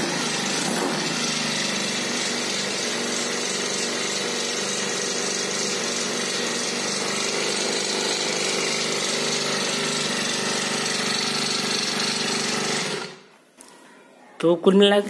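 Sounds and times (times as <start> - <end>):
small petrol engine buzzing: 0.0 - 13.3.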